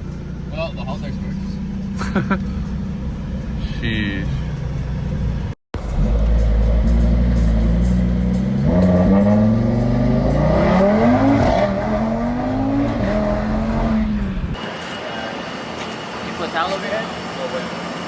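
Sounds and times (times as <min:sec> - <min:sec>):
car engine accelerating hard: 0:00.0 - 0:14.6.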